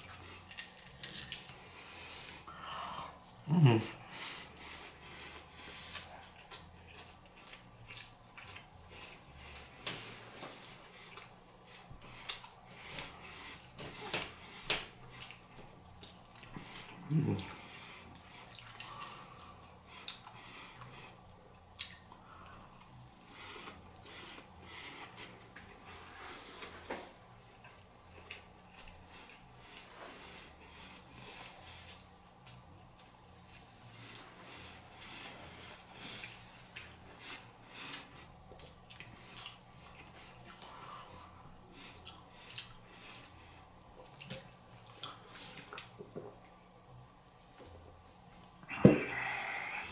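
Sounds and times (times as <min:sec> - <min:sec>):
person chewing: 0:00.0 - 0:02.5, 0:03.1 - 0:46.5
faint electrical hum: 0:00.0 - 0:49.9.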